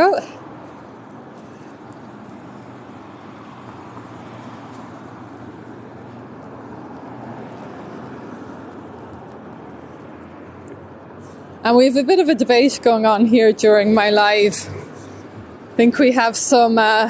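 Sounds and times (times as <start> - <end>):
rumble of passing cars: 0.0 - 17.0.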